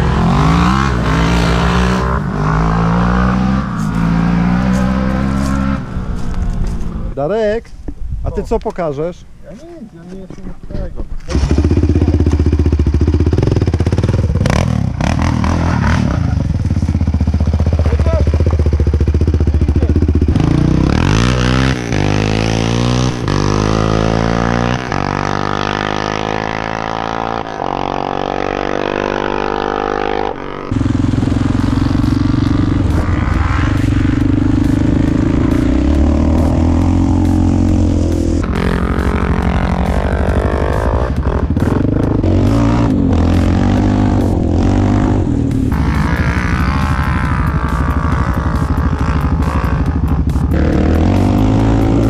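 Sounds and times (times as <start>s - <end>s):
quad engine revving: 0.0s - 7.1s, 11.3s - 52.0s.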